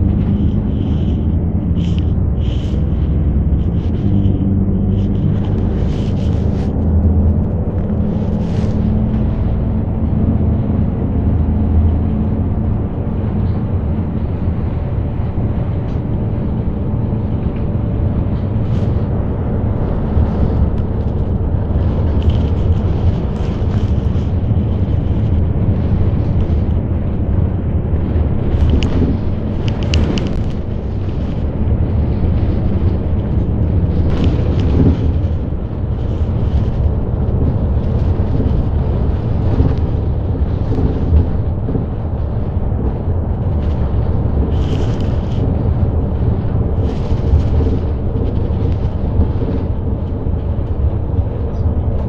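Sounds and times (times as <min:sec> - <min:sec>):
bus engine and road rumble: 0:00.0 - 0:52.0.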